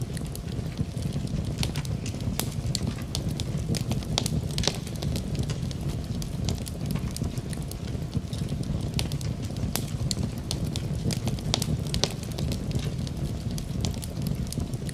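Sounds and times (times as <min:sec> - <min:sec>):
fire crackling and popping: 0:00.0 - 0:14.9
low rumble of fire: 0:00.0 - 0:14.9.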